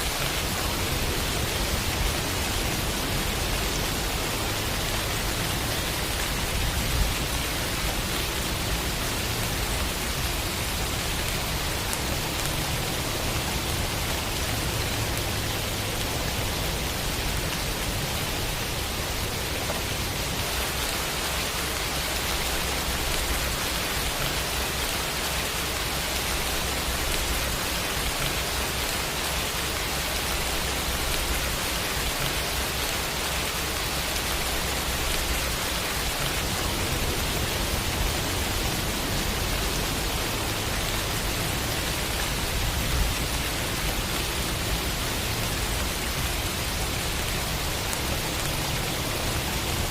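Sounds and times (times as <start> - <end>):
falling rain hiss: 0.0 - 49.9.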